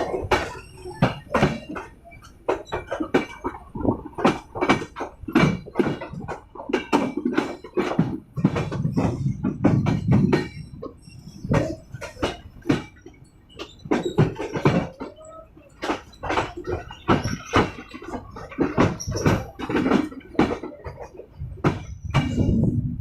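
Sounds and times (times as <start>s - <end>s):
train coach knocking and rattling: 0.0s - 23.0s.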